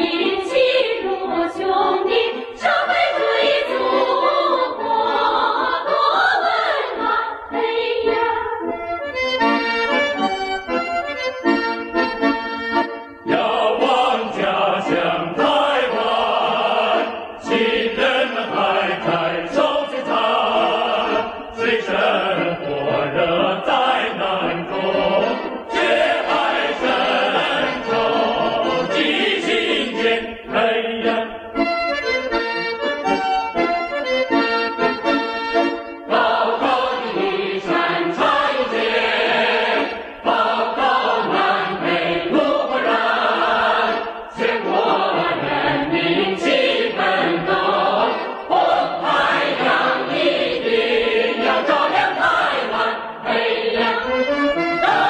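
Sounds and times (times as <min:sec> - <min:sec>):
choir singing with instruments: 0:00.0 - 0:11.2, 0:11.8 - 0:55.0.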